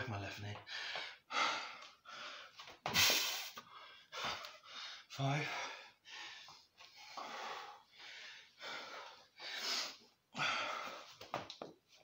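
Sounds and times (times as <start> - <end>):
man breathing hard: 0.6 - 11.3.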